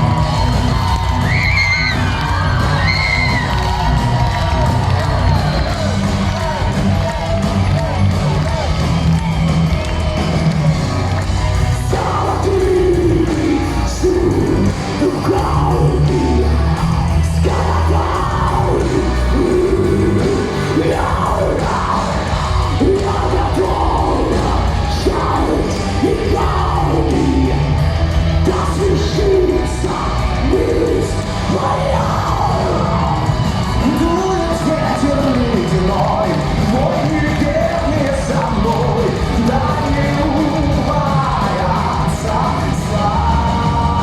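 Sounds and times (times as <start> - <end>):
metal band playing live: 0.0 - 44.0.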